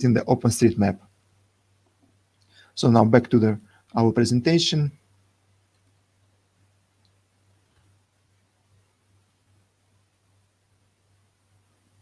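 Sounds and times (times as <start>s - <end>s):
faint low hum: 0.0s - 12.0s
light hiss: 0.0s - 12.0s.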